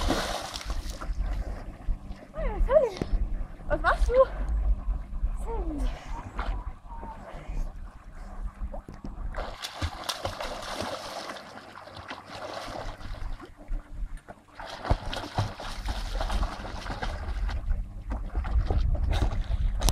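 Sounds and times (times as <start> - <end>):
water splashing and churning: 0.0 - 19.9.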